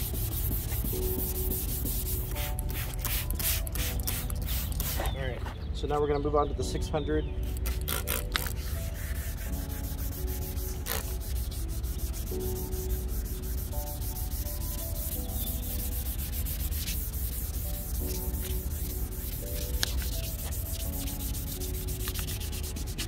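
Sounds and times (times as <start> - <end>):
sandpaper rubbing on plastic: 0.0 - 5.2, 7.6 - 23.0
background music: 0.0 - 23.0.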